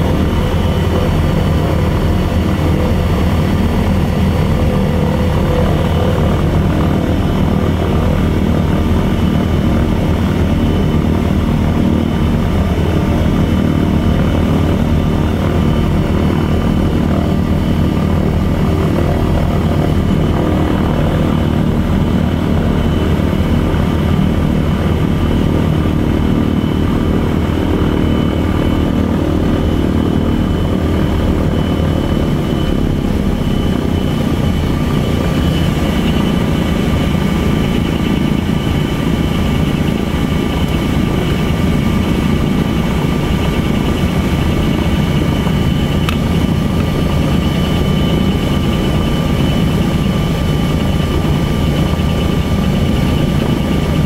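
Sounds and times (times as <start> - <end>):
radial engines and propellers running: 0.0 - 54.0.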